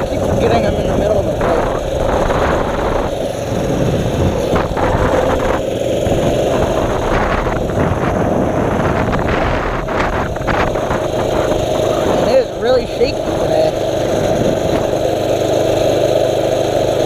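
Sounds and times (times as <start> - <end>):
wind noise on microphone: 0.0 - 16.1
small bike engine running: 0.0 - 17.0.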